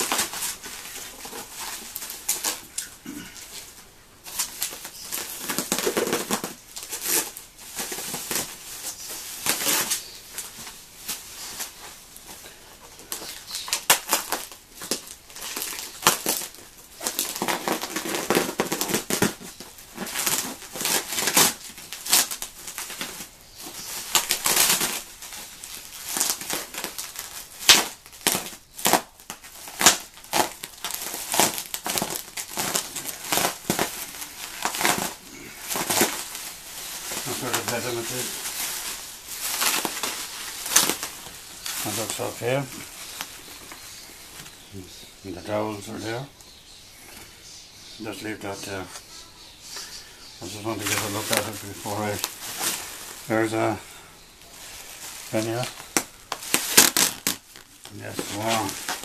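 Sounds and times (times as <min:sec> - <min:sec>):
plastic packaging crinkling: 0:00.0 - 0:46.6, 0:50.4 - 0:59.0.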